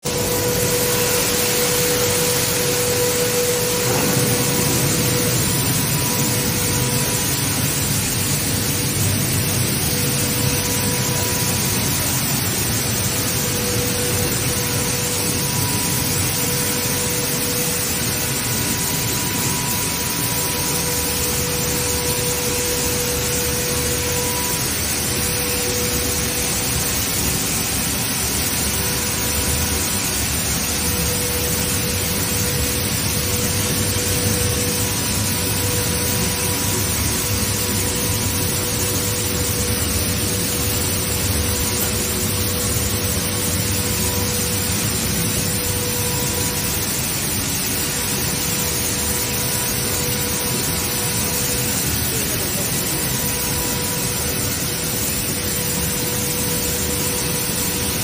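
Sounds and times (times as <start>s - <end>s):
mill machinery running: 0.0s - 58.0s.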